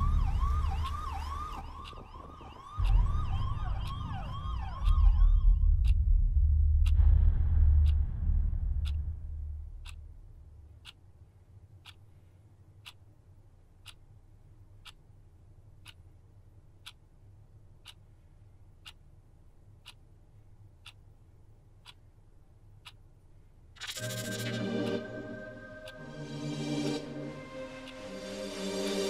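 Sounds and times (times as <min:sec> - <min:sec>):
clock ticking: 0:00.0 - 0:29.0
low room hum: 0:00.0 - 0:29.0.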